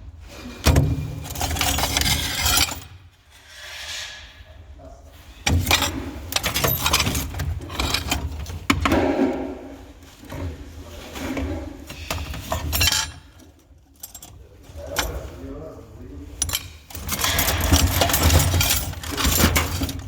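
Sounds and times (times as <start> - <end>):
scrap metal clattering and scraping: 0.1 - 20.0.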